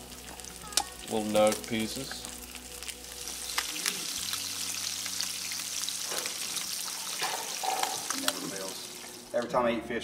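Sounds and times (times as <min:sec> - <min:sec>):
fish frying in hot oil: 0:00.0 - 0:09.4
oil popping: 0:00.0 - 0:09.6.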